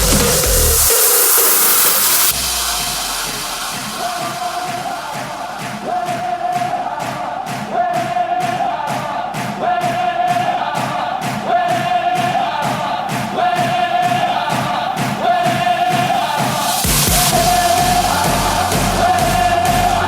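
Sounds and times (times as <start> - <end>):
electronic dance music: 0.0 - 20.0.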